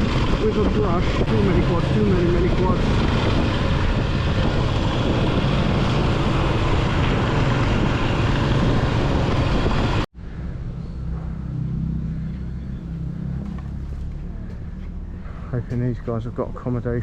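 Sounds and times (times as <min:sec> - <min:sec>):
low engine hum: 0:00.0 - 0:17.0
motorcycle engine: 0:00.0 - 0:17.0
wind noise: 0:00.0 - 0:17.0.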